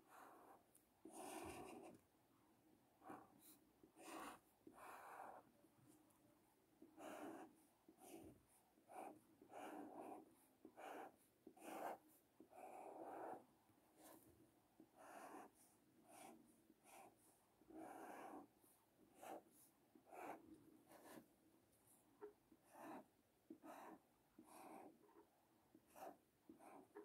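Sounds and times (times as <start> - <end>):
marker scratching on paper: 0.0 - 2.0, 3.0 - 5.5, 6.8 - 14.3, 14.9 - 21.3, 22.2 - 27.0.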